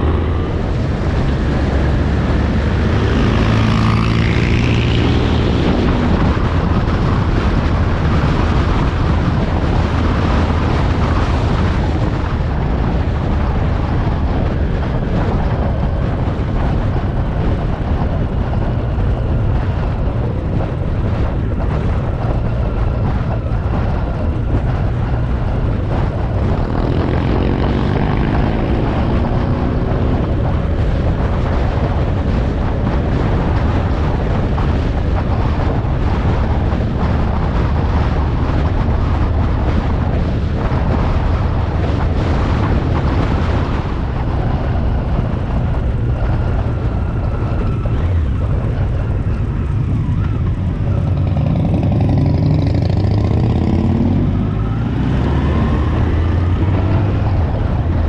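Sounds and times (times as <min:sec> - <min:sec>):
motorcycle engine drone: 0:00.0 - 0:58.0
wind rush on microphone: 0:00.0 - 0:58.0.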